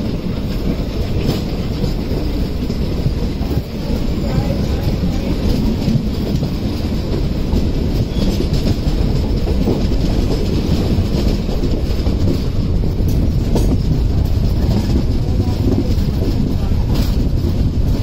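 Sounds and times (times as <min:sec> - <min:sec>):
passenger coaches passing: 0:00.0 - 0:18.0
train wheels clattering on rails: 0:00.0 - 0:18.0.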